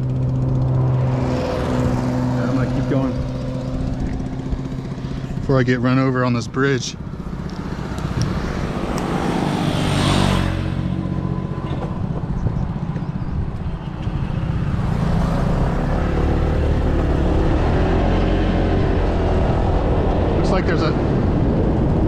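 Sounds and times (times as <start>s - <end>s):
motorbike engine running: 0.0s - 20.1s.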